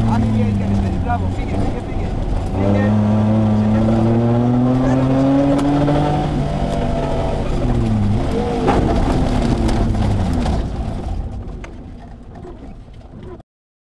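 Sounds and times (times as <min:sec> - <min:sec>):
car engine slowing down: 0:00.0 - 0:13.4.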